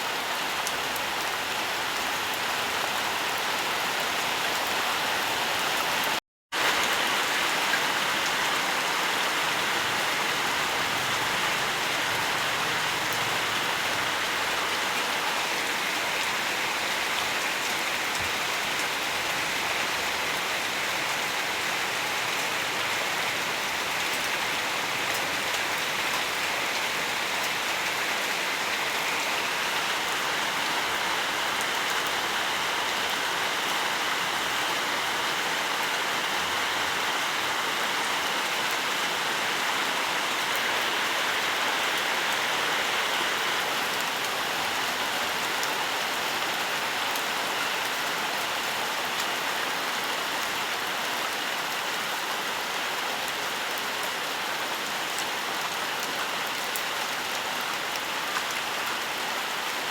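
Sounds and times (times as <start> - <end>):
dense rain on foliage: 0.0 - 59.9.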